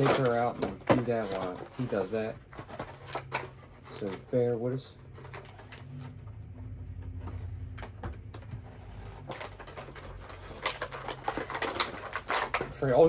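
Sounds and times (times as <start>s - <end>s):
plastic packaging clicks and crinkles: 0.0s - 6.2s, 8.2s - 13.0s.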